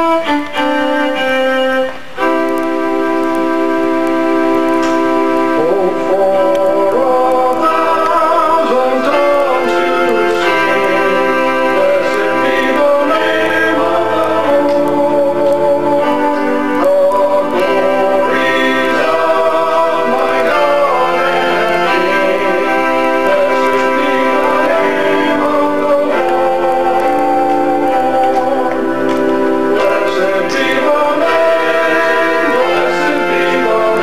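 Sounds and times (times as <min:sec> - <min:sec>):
keyboard sustained chords: 0:00.0 - 0:34.0
men singing together: 0:05.5 - 0:34.0.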